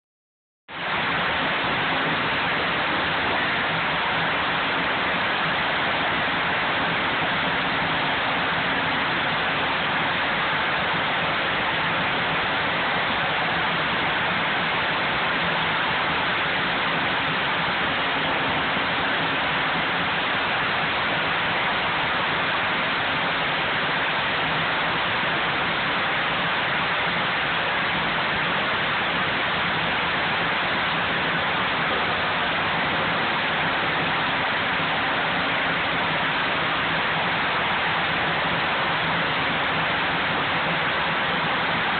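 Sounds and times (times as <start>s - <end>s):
sawmill machinery running: 0.8s - 41.9s.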